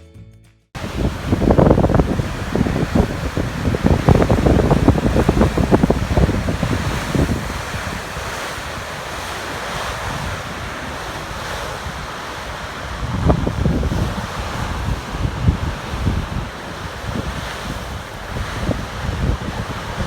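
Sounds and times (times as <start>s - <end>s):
rushing wind: 0.8s - 20.0s
surf: 0.8s - 20.0s
wind buffeting microphone: 0.8s - 20.0s.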